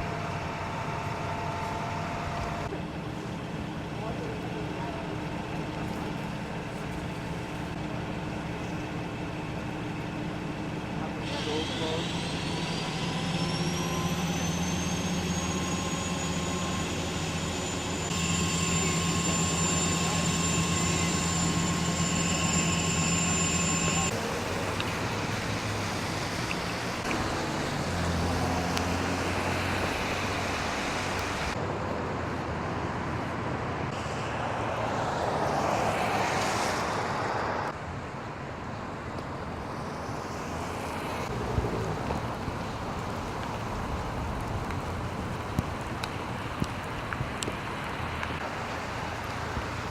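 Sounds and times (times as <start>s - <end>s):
engine hum with high whine: 0.0s - 49.9s.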